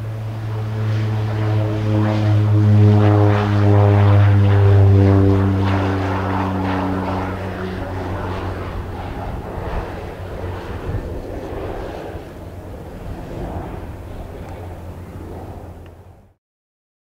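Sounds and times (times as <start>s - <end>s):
turboprop plane taking off: 0.0s - 16.4s.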